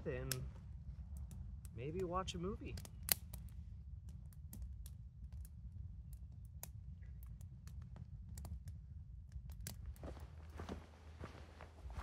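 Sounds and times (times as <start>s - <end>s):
campfire crackling and popping: 0.0s - 10.6s
low fire rumble: 0.0s - 12.0s.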